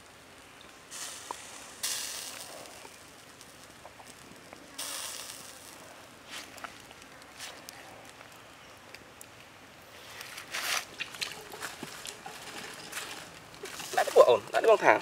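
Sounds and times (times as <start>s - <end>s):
meat juices sizzling over embers: 0.0s - 15.0s.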